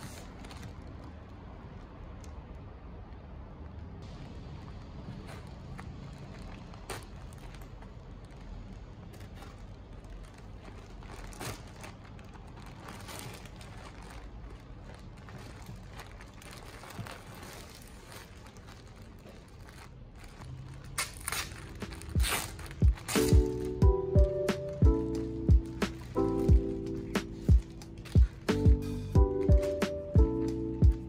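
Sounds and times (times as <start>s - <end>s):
plastic mailer bag crinkling: 0.0s - 1.3s, 4.0s - 31.0s
plastic garment bag crinkling: 0.0s - 2.3s, 4.0s - 31.0s.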